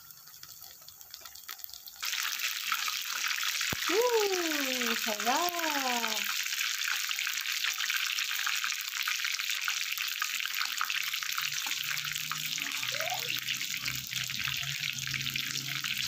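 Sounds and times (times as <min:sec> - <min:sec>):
meat frying in hot oil: 0:00.0 - 0:16.0.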